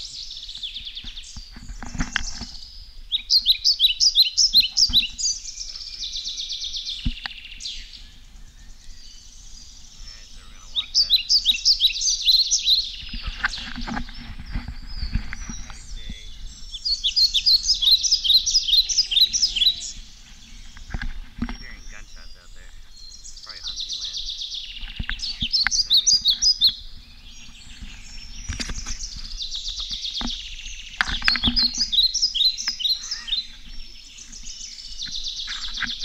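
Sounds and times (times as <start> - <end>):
songbird chirping: 0.0 - 36.0.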